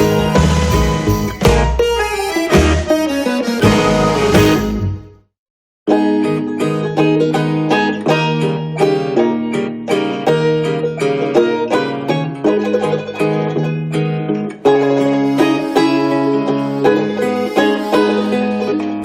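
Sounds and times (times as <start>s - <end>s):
plucked strings music: 0.0s - 5.2s, 5.9s - 19.0s.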